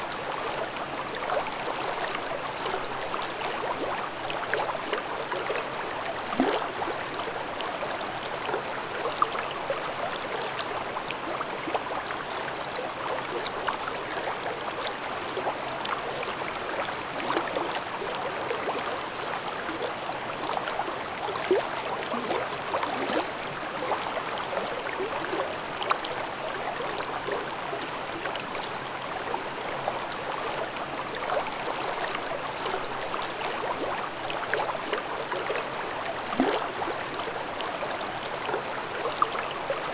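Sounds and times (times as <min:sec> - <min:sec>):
mountain stream babbling over rocks: 0:00.0 - 0:39.9.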